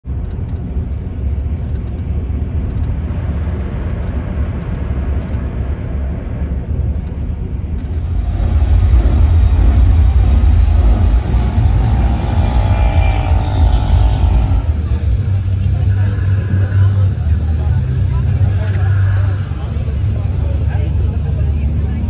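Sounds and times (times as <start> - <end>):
motorway road noise rumble: 0.0 - 22.0.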